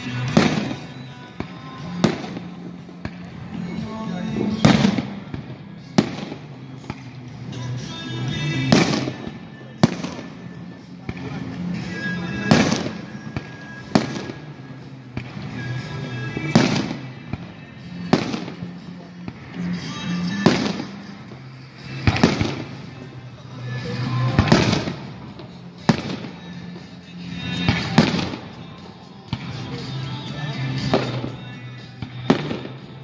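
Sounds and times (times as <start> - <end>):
firework bangs echoing: 0.0 - 33.0
music playing: 0.0 - 33.0.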